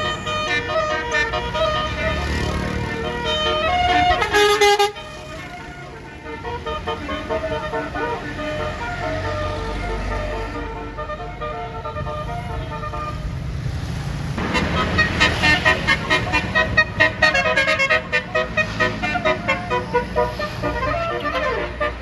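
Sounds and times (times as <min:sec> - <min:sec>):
air horn playing a tune: 0:00.0 - 0:13.3, 0:14.4 - 0:22.0
bus engine running: 0:00.0 - 0:22.0.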